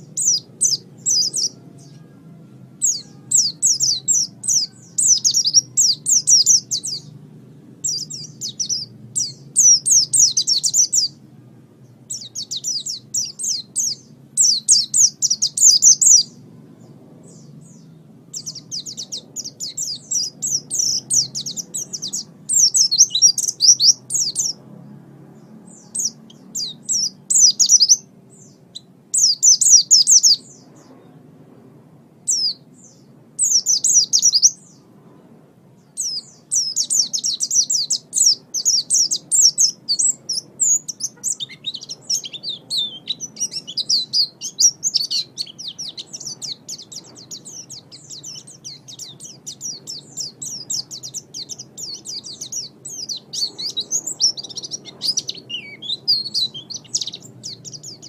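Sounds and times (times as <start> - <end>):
songbird chattering song: 0.0 - 31.3, 32.2 - 58.0
faint low hum: 0.0 - 58.0.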